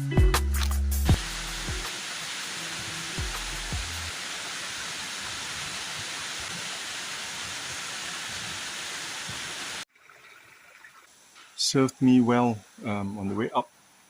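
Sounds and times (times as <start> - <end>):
rushing water: 1.1 - 14.0.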